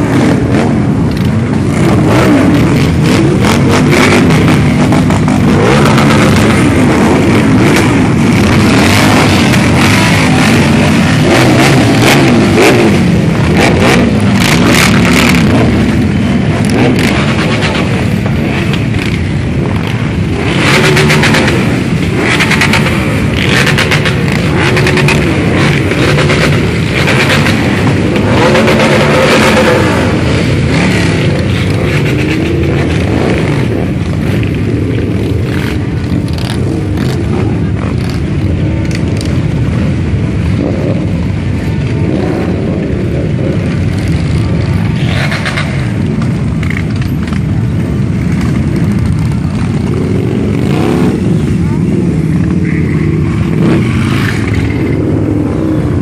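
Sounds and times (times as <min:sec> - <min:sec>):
motorcycles riding past: 0:00.0 - 0:56.0.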